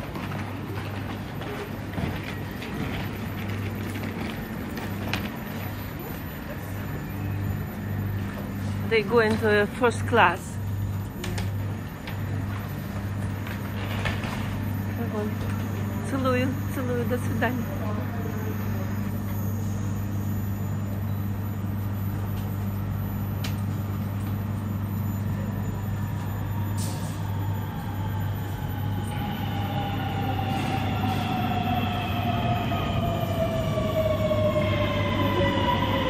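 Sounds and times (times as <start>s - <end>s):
electric train motor whine: 0.0s - 36.0s.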